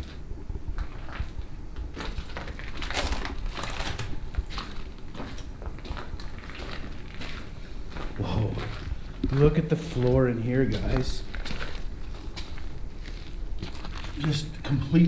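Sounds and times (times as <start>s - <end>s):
footsteps crunching on debris: 0.0s - 15.0s.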